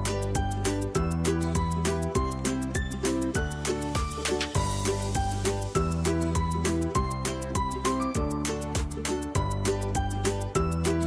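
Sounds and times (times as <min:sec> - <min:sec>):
held bass line: 0:00.0 - 0:11.0
plucked melody notes: 0:00.0 - 0:11.0.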